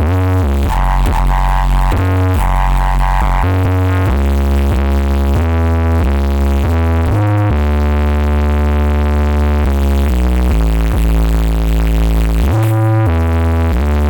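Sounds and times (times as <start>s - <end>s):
heavy synth bass line: 0.0s - 14.0s
loud electronic dance music: 0.0s - 14.0s.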